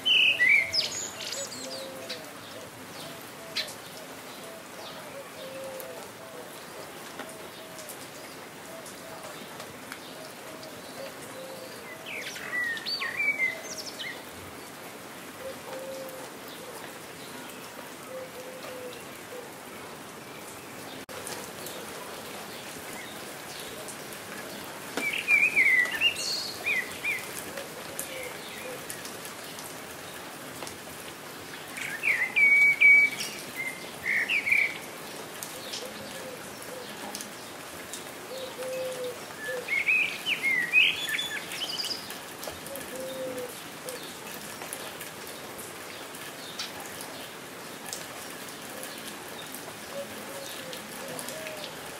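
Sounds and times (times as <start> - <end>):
songbirds chirping: 0.0 - 51.9
steady rain falling: 0.0 - 51.9.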